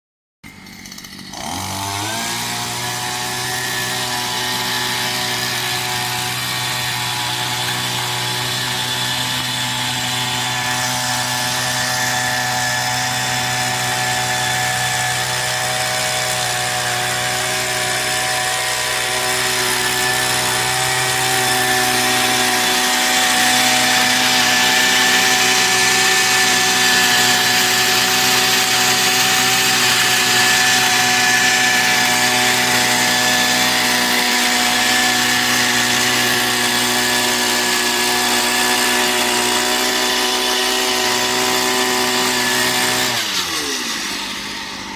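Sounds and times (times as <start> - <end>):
machine cutting noise: 0.5 - 44.9
machine buzzing: 0.7 - 44.9.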